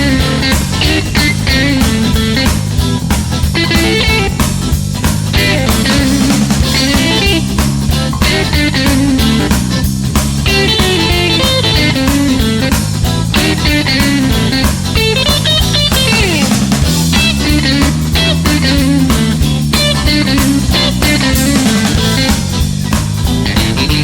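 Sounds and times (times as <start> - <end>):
bass: 0.0 - 24.0
drums: 0.0 - 24.0
lead guitar: 0.0 - 24.0.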